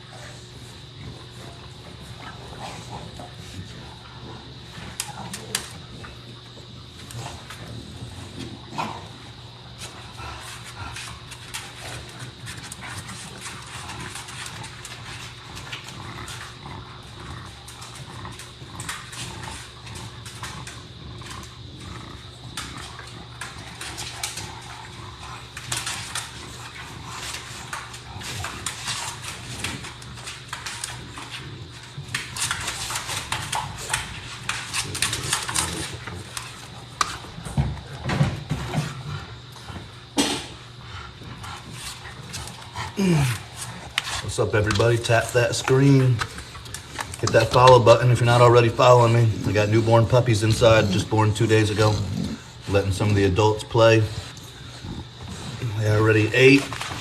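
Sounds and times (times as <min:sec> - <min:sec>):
dogs playing and scuffling: 0:00.0 - 0:57.0
steady low hum: 0:00.0 - 0:57.0.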